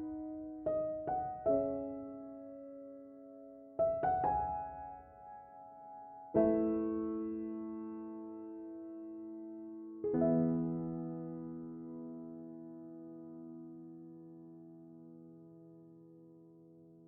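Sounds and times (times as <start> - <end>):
slow gentle piano: 0.0 - 17.0.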